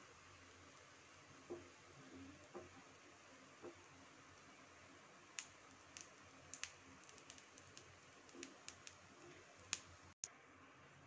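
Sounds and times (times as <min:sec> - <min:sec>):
ghee crackling and popping: 0:00.0 - 0:10.2.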